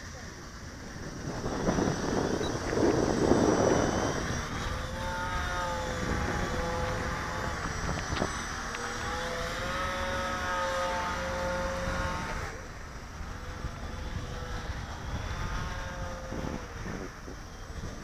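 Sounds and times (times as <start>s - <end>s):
model plane droning past: 0.0s - 18.0s.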